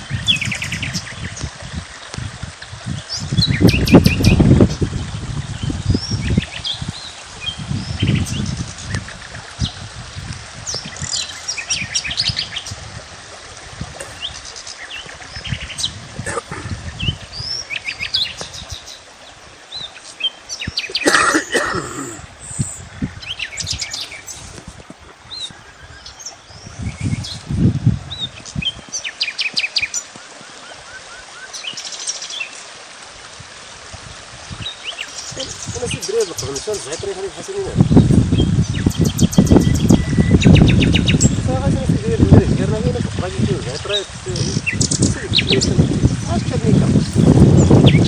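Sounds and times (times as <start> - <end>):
small birds chirping: 2.9 - 9.8, 10.6 - 12.9, 14.0 - 21.1, 21.9 - 32.7, 34.5 - 48.0.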